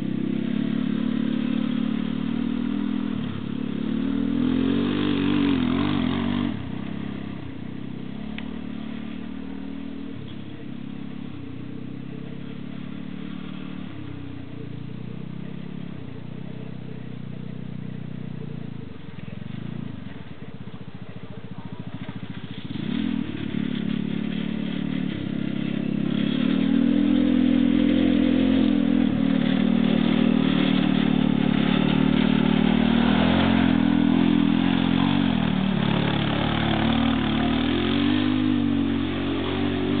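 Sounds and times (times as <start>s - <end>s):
go-kart engine revving: 0.0s - 40.0s.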